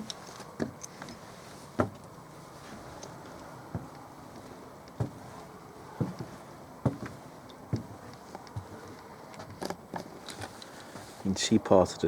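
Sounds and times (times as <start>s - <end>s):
footsteps walking: 0.0s - 11.3s.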